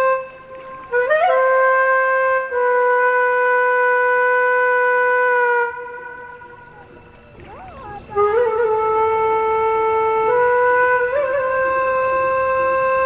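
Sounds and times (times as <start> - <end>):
wind instrument holding notes: 0.0 - 13.0.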